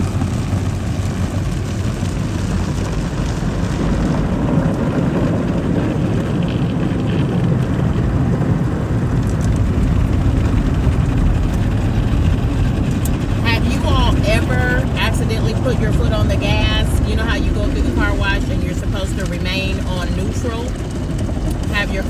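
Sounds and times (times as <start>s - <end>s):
car wash machinery rushing: 0.0s - 22.0s.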